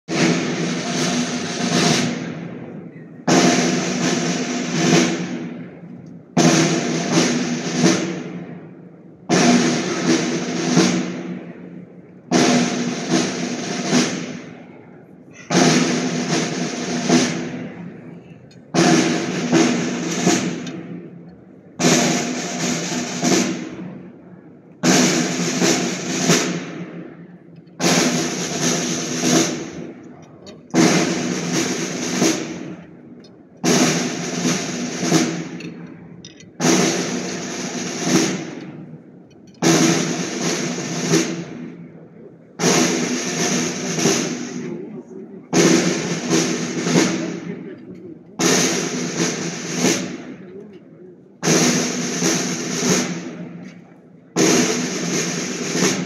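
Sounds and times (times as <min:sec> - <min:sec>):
drums playing cadence: 0:00.0 - 0:41.9, 0:42.6 - 0:50.5, 0:51.4 - 0:56.0.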